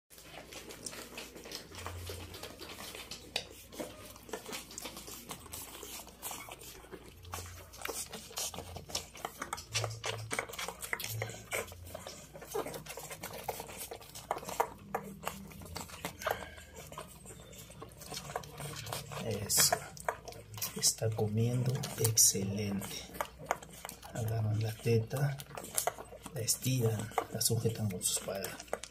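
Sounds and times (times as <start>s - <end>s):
puppies suckling wet clicks: 0.1s - 28.9s
puppies grunting: 0.2s - 28.9s.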